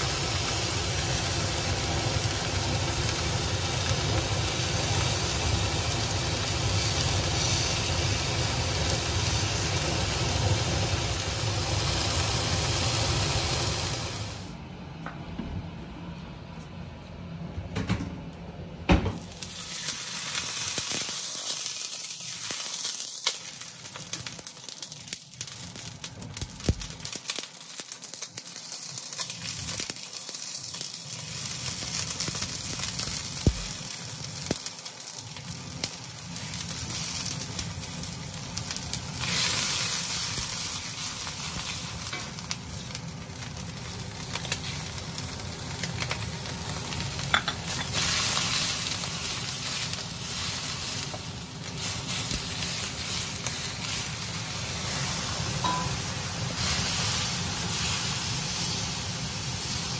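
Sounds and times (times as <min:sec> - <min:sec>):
food sizzling in a wok: 0:00.0 - 0:14.6, 0:19.1 - 0:59.9.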